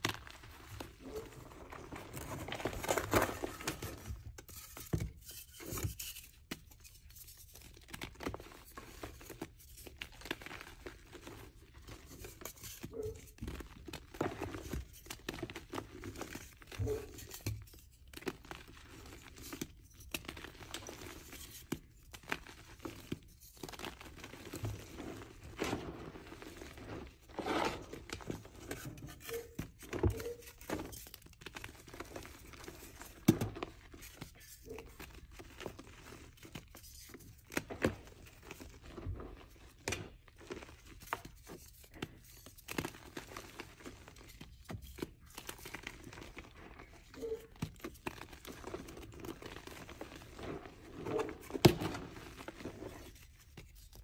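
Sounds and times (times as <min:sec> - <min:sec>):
chalk crumbling and crunching: 0:00.0 - 0:54.0.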